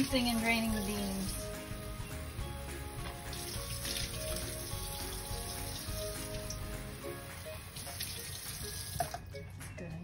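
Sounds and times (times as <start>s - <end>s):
tap water running into a can: 0.0s - 9.3s
background music with sustained notes: 0.0s - 10.0s.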